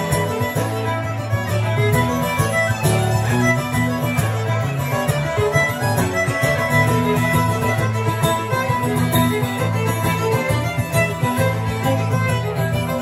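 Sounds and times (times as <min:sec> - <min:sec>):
acoustic guitar rhythm: 0:00.0 - 0:13.0
fiddle melody: 0:00.0 - 0:13.0.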